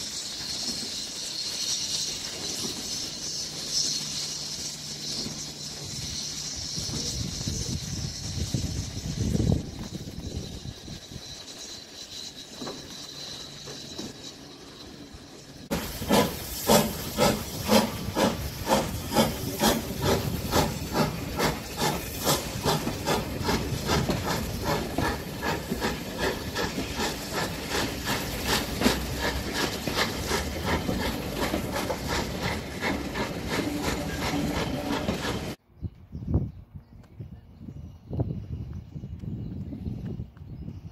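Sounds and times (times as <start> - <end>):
steam locomotive chuffing: 0.0 - 35.6.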